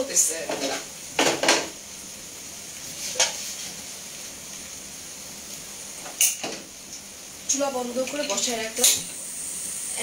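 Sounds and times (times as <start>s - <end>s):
food sizzling: 0.0s - 10.0s.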